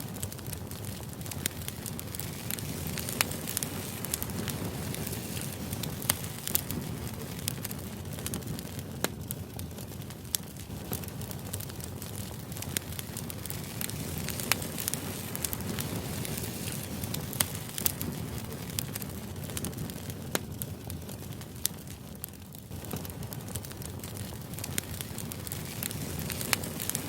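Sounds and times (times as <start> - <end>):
crackles and pops: 0.0 - 27.0.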